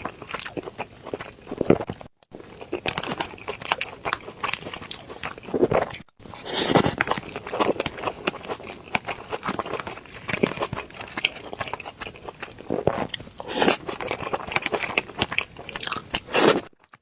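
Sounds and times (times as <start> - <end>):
close chewing and biting food: 0.0 - 17.0.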